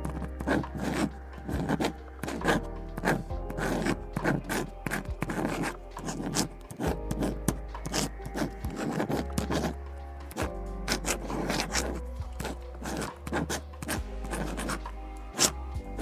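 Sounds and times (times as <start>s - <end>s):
pen scratching on paper: 0.0s - 16.0s
soft lo-fi music: 0.0s - 16.0s.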